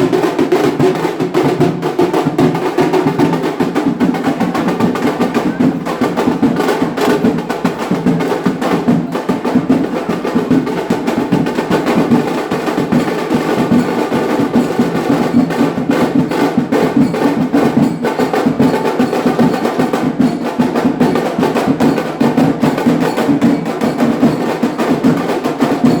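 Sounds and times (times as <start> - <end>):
fast busy drumming: 0.0 - 26.0
wedding band playing: 0.0 - 26.0.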